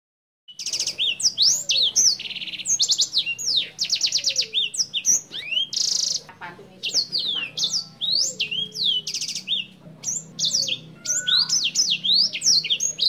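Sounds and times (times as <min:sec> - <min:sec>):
songbird singing trills: 0:00.5 - 0:13.0.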